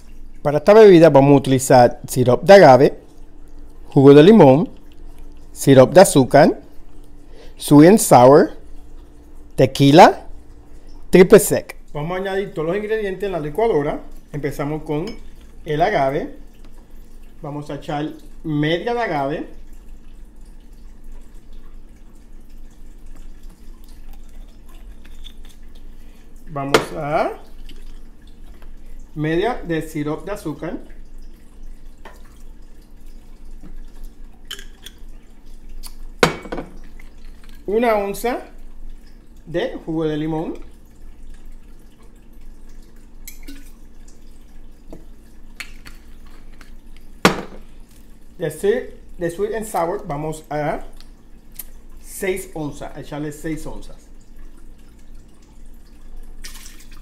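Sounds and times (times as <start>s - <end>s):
syrup trickling and dripping: 0.0s - 57.0s.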